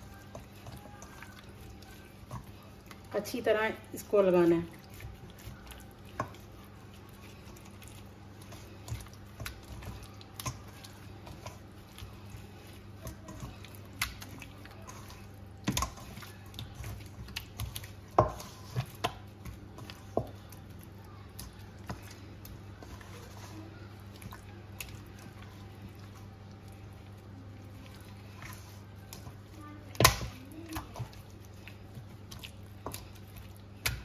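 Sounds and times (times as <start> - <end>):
wet squelching of kneaded meat: 0.0 - 34.0.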